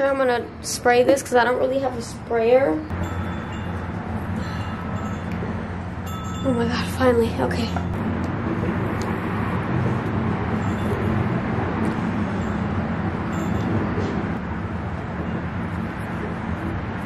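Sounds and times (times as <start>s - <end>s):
road traffic rumble and hiss: 0.0s - 17.0s.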